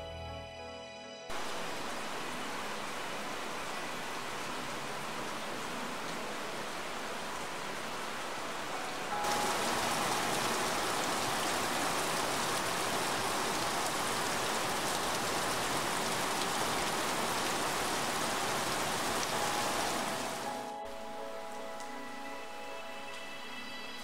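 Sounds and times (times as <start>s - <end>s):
heavy rain falling: 1.3s - 24.0s.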